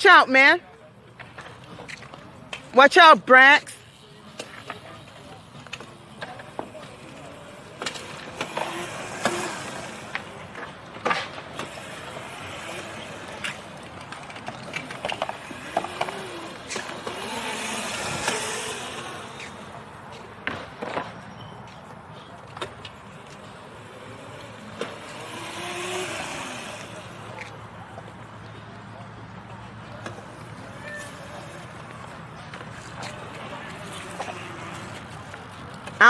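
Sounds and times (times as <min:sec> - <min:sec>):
small dirt bike motor: 0:03.8 - 0:21.2, 0:21.8 - 0:36.0.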